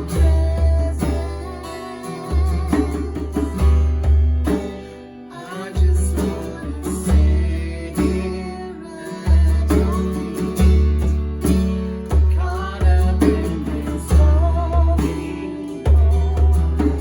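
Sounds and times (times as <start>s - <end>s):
person singing: 0.0s - 3.9s, 4.8s - 10.8s, 12.1s - 17.0s
strummed guitar: 0.0s - 17.0s.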